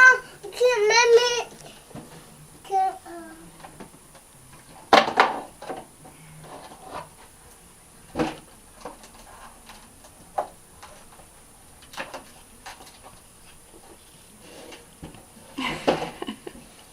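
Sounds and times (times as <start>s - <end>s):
faint high whine: 0.0s - 16.9s.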